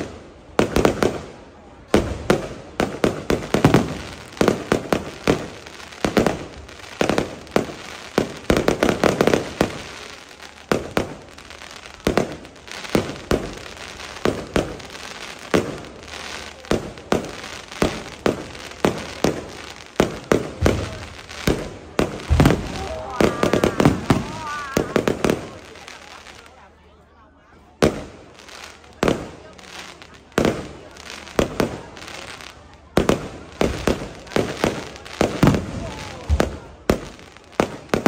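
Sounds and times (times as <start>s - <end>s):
fireworks banging: 0.0s - 26.6s, 27.7s - 38.0s.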